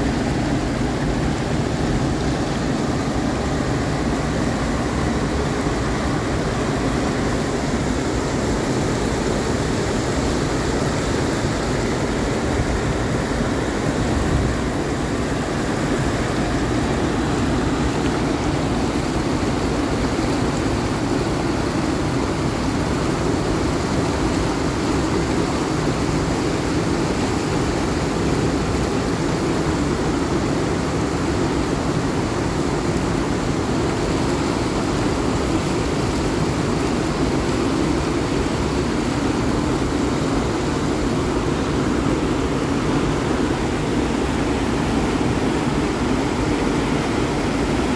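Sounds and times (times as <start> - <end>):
waterfall and rapids rushing: 0.0 - 47.9.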